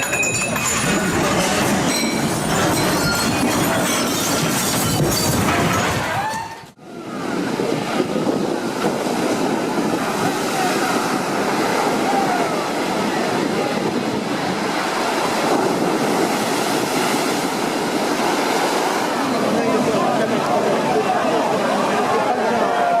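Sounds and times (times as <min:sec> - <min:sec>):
waves breaking: 0:00.0 - 0:23.0
wind buffeting microphone: 0:00.0 - 0:23.0.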